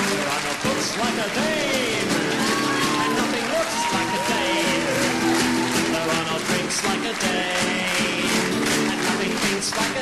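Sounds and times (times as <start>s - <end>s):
guitar music with held notes: 0.6s - 9.7s.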